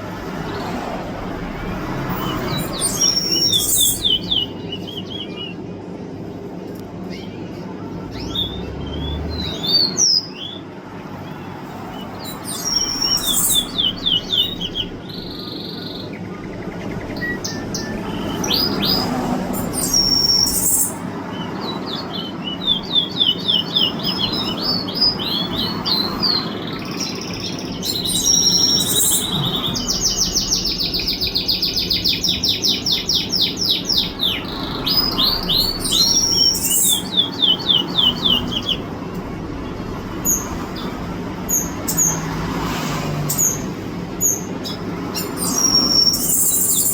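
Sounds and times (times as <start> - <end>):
songbird chirping and trilling: 0.0 - 46.9.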